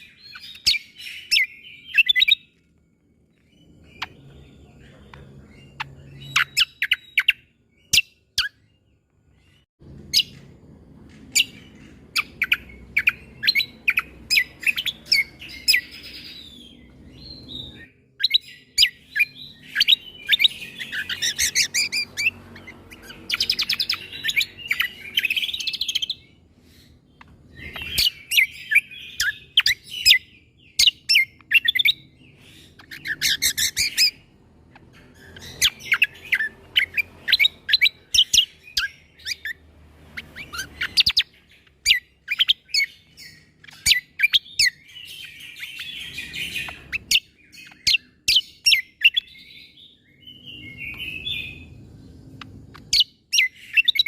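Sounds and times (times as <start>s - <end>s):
bird singing sharp high chirps: 0.0s - 10.6s, 11.2s - 54.0s.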